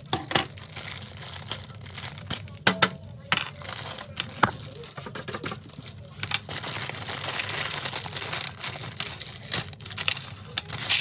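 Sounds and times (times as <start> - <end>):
plastic packaging crinkling and tearing: 0.0 - 11.0.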